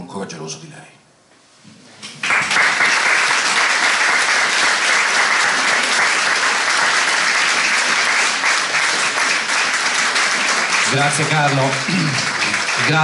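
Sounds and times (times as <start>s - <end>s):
audience applauding: 2.2s - 13.0s.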